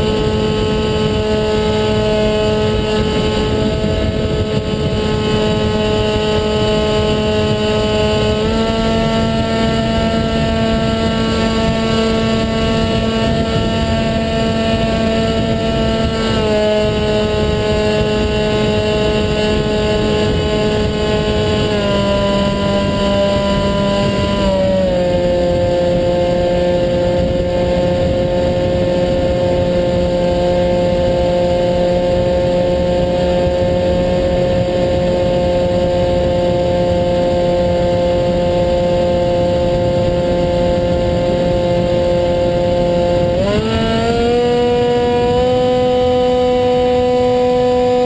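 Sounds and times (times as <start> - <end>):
electric motor and propeller humming: 0.0 - 48.0.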